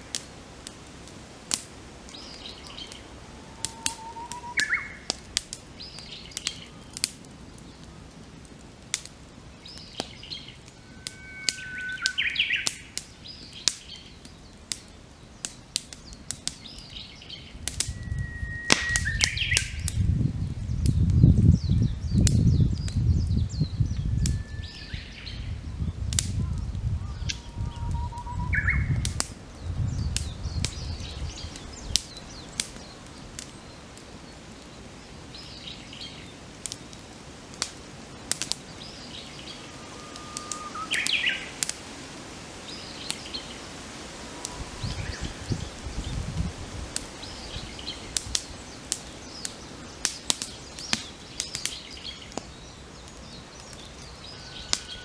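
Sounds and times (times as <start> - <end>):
campfire crackling and popping: 0.0 - 55.0
songbirds singing: 1.8 - 8.2, 9.2 - 37.0, 38.1 - 55.0.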